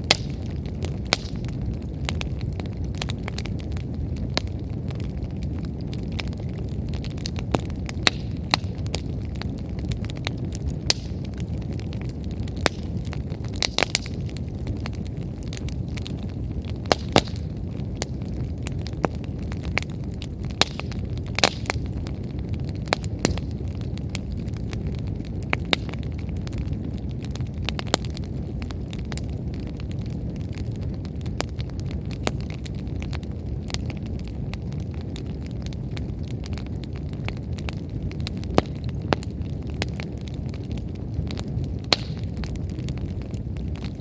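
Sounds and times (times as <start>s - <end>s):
firewood crackling and popping: 0.0s - 44.0s
flames rushing: 0.0s - 44.0s.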